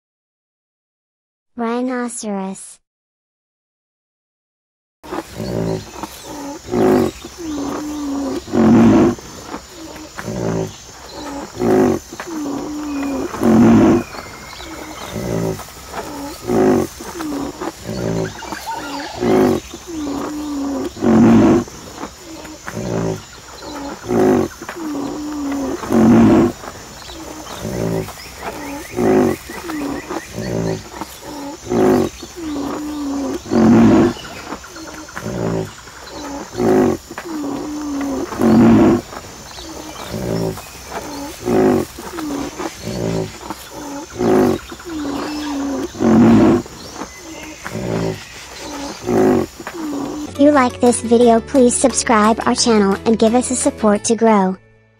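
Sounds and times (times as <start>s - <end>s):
rhinoceros grunting calls: 5.1s - 50.8s.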